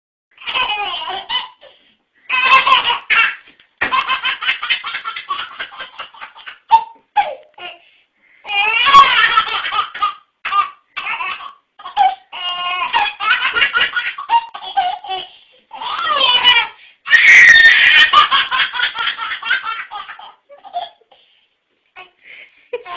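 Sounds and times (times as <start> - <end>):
baby laughing: 0.4 - 7.8, 8.5 - 21.2.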